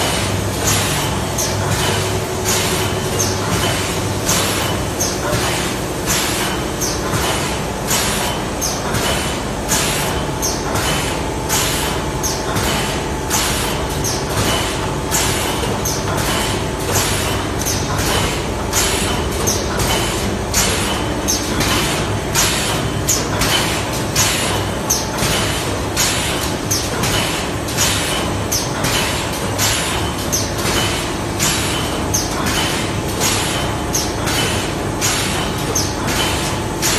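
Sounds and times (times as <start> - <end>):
machine hissing and clacking bursts: 0.0 - 36.9
steady machine hum: 0.0 - 36.9.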